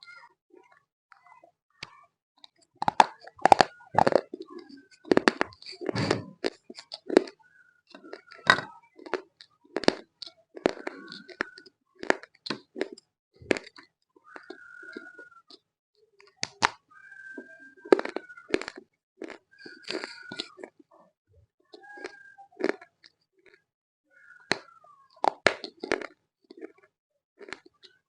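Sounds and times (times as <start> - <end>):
chewing crunchy clay: 2.6 - 15.6, 16.4 - 20.8, 21.8 - 23.6, 24.2 - 28.0.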